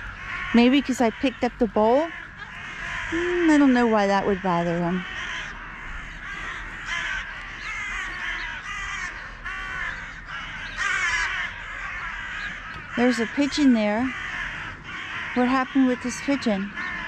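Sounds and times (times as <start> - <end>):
crows cawing: 0.0 - 17.0.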